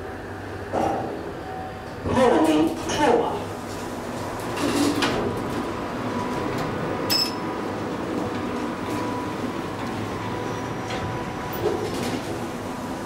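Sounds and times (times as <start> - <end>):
elevator mechanical hum: 0.0 - 13.0.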